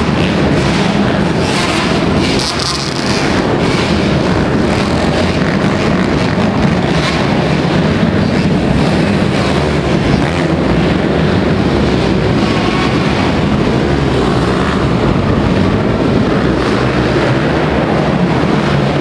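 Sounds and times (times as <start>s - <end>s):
motocross bike engines running: 0.0s - 19.0s
wind buffeting microphone: 0.0s - 19.0s.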